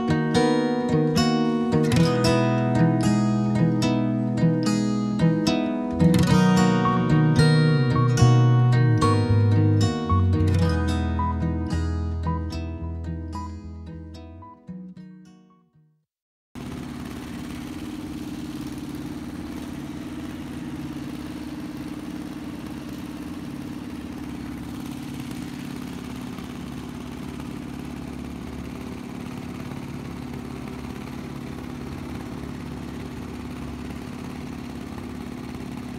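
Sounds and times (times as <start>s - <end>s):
motorboat engine droning: 0.0s - 14.6s, 16.6s - 35.9s.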